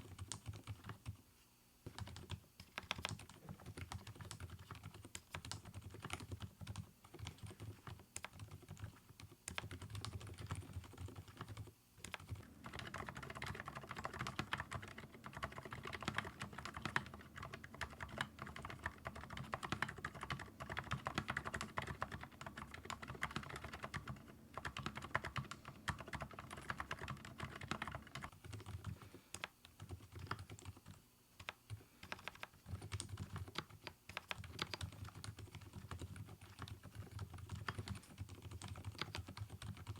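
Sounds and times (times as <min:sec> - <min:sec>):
soft muffled keyboard typing: 0:00.0 - 0:01.2, 0:01.8 - 0:39.9.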